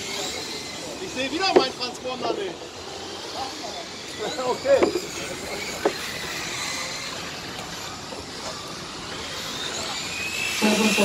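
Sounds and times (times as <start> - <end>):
model truck motor whine: 0.0 - 11.0
outdoor noise: 0.0 - 11.0.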